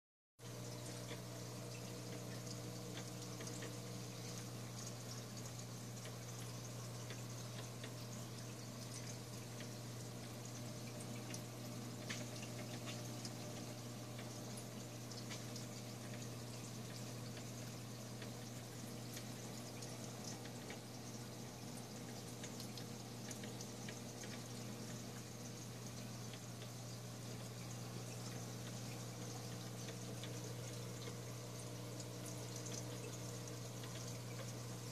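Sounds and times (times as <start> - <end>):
aquarium equipment humming: 0.4 - 34.9
water trickling and bubbling: 0.4 - 34.9
faint clicks: 0.6 - 34.9.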